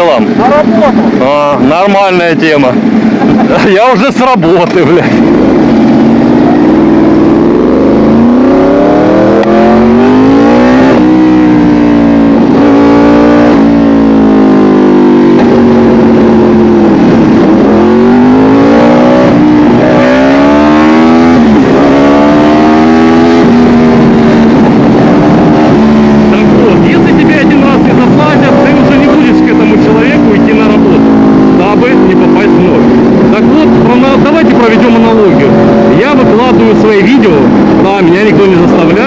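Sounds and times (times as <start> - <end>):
motorcycle engine accelerating hard: 0.0 - 39.0.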